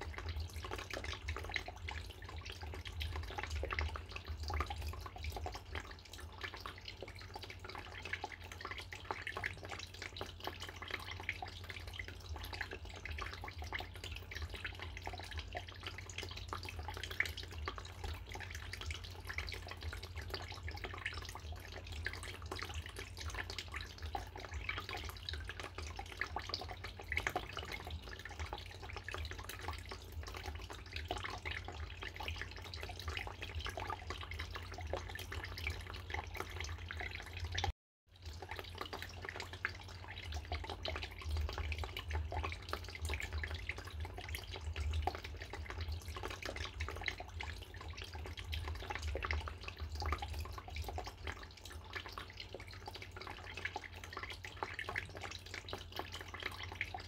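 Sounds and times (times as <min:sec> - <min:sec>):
water dripping: 0:00.0 - 0:57.0
water fountain trickling: 0:00.0 - 0:57.0.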